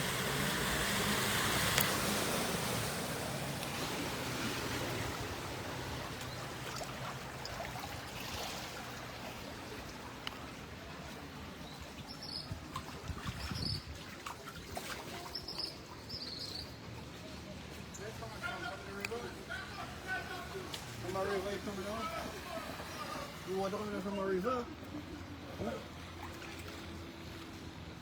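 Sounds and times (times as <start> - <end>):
floodwater rushing along street: 0.0 - 28.0.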